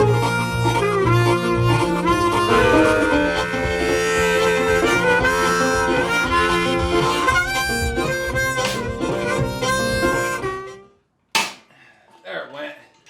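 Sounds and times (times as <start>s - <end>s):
harmonica melody music: 0.0s - 11.0s.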